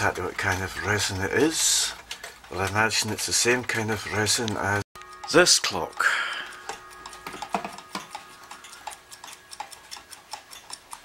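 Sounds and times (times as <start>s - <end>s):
mechanical clocks ticking: 0.0s - 11.0s.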